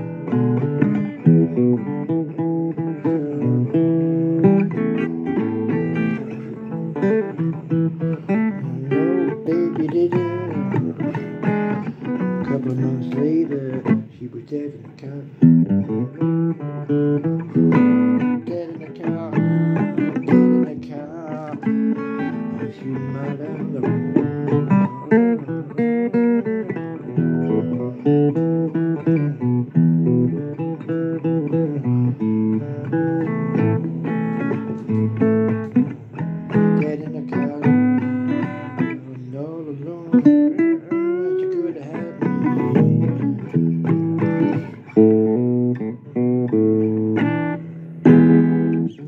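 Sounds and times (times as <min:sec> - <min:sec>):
blues guitar playing: 0:00.0 - 0:49.0.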